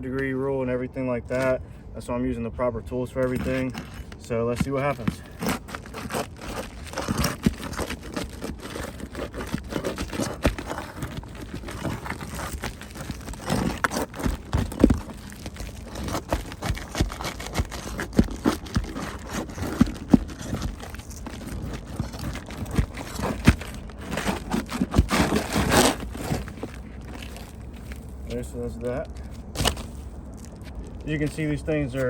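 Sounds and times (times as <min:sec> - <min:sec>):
shingles cracking and scraping: 0:03.2 - 0:32.0.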